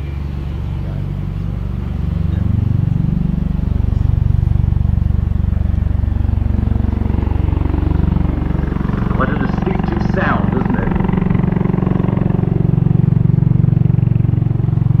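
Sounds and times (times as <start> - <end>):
rotor aircraft throbbing: 0.0 - 15.0
turbine engines: 0.0 - 15.0.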